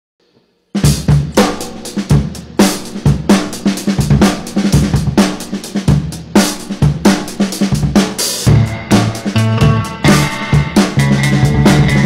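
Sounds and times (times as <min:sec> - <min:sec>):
drum kit funky groove: 0:00.7 - 0:12.0.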